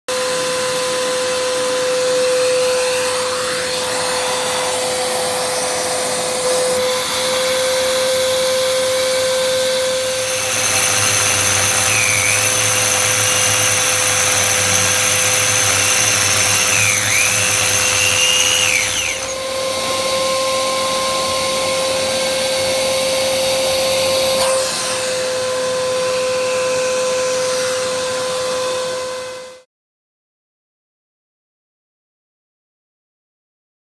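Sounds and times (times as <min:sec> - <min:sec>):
power drill boring into wall: 0:00.1 - 0:29.6
vacuum cleaner running: 0:00.1 - 0:29.6.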